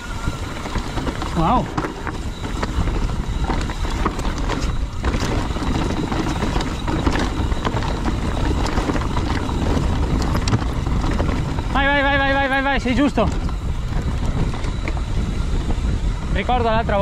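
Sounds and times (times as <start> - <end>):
bike rattling: 0.0 - 17.0
steady low rumble: 0.0 - 17.0.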